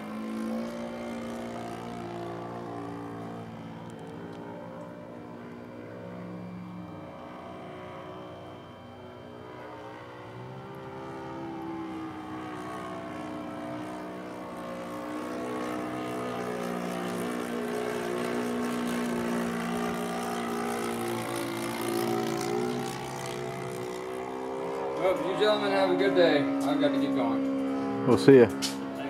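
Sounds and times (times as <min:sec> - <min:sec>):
model plane engine drone: 0:00.0 - 0:29.0.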